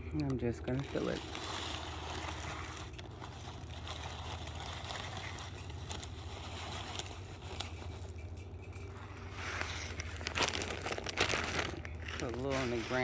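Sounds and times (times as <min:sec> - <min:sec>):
low steady rumble: 0:00.0 - 0:13.0
rustling of bird food: 0:00.2 - 0:13.0.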